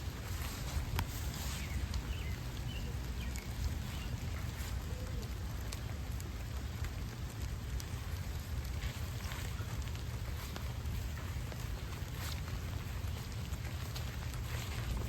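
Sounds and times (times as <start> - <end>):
raindrops dripping near microphone: 0.0 - 15.0
steady rain hiss: 0.0 - 15.0.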